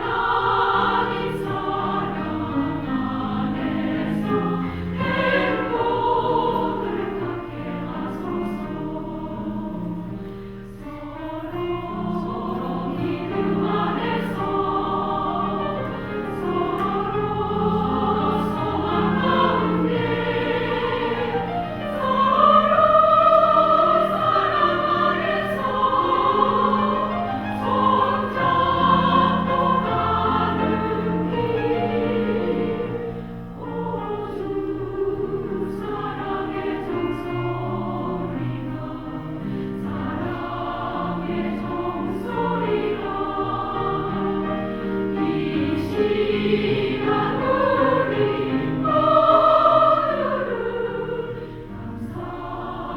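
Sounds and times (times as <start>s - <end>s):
women's choir singing: 0.0s - 52.9s.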